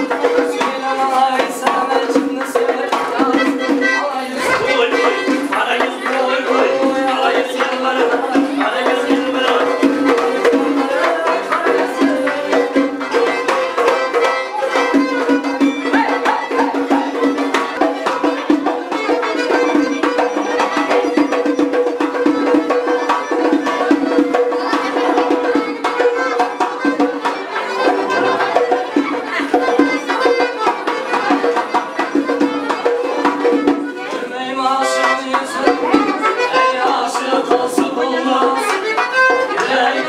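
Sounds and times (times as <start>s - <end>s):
fast hand-drum rhythm: 0.0s - 40.0s.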